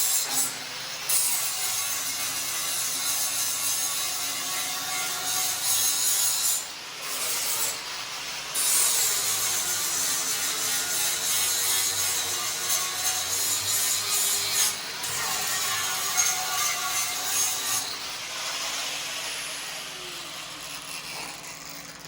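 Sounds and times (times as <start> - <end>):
rasping metalworking on steel: 0.0 - 22.0.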